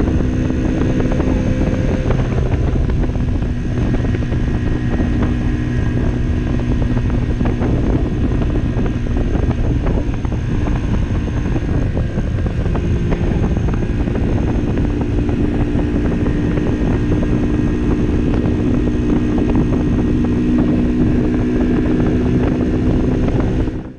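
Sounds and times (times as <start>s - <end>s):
moped engine at full throttle: 0.0s - 23.9s
wind rumble on microphone: 0.0s - 23.9s.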